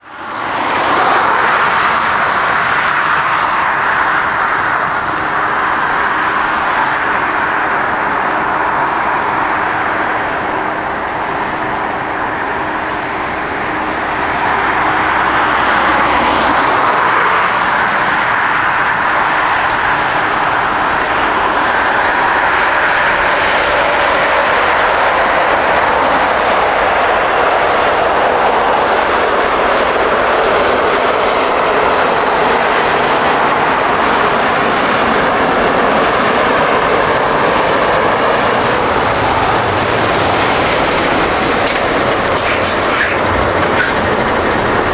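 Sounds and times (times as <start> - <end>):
jet engines rushing: 0.0 - 44.9.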